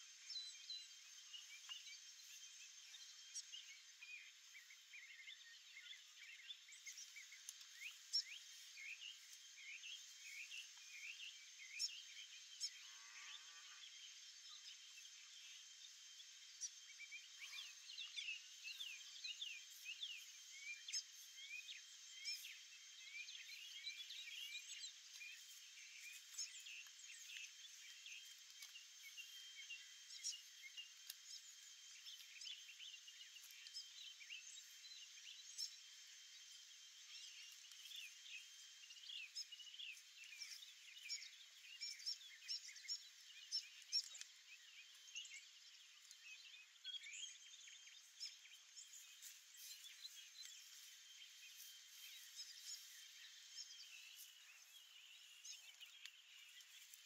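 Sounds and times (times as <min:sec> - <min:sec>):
small birds chirping and whistling: 0:00.0 - 0:57.0.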